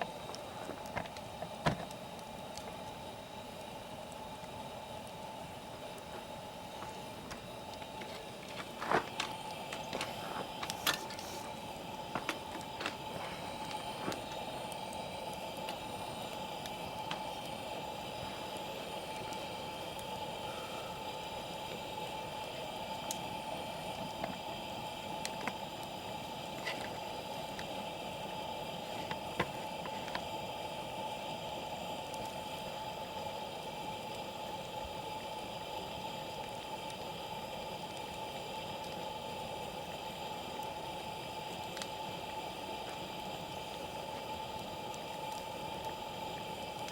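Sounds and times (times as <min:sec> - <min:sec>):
campfire crackling: 0:00.0 - 0:46.9.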